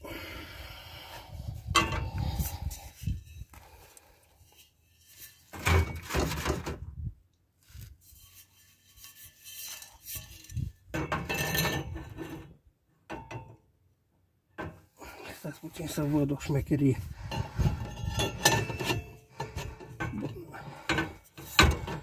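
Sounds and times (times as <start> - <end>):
metal pipes clinking and scraping: 1.5 - 6.8, 7.7 - 13.6, 15.6 - 22.0.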